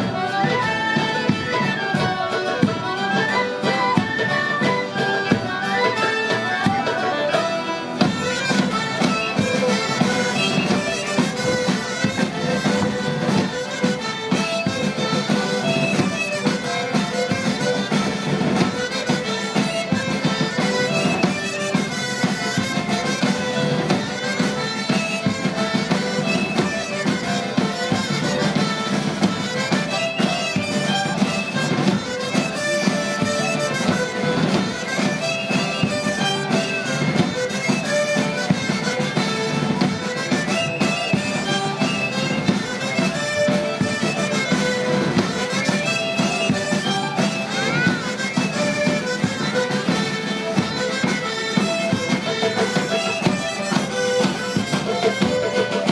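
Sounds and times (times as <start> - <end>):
wind instruments dance music: 0.0 - 55.9.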